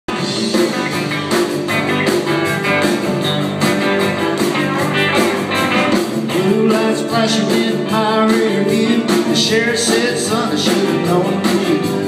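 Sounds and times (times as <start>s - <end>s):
bass: 0.1s - 12.0s
keyboard: 0.1s - 12.0s
steady drum beat: 0.1s - 12.0s
strummed acoustic guitars: 0.1s - 12.0s.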